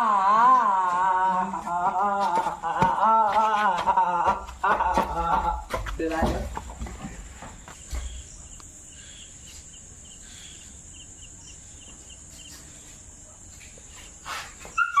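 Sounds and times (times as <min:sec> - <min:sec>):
crickets trilling: 0:00.3 - 0:15.0.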